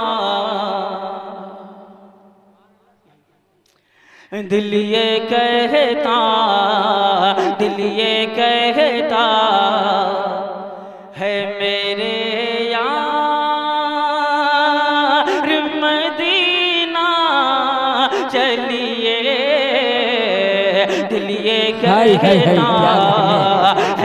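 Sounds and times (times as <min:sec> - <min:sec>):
man singing melismatic notes: 0:04.3 - 0:24.0.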